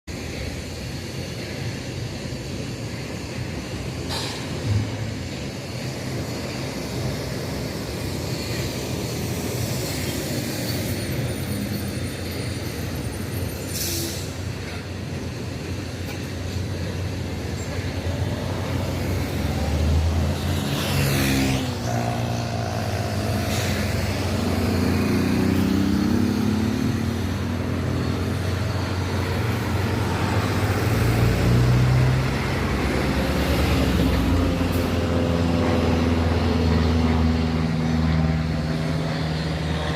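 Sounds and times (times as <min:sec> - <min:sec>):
light aircraft engine and propeller: 0:00.1 - 0:39.9.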